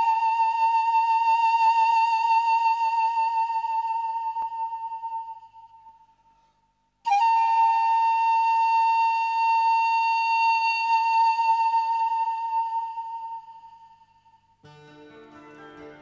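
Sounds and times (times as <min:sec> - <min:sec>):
pan flute long note: 0:00.0 - 0:05.9, 0:07.1 - 0:14.2.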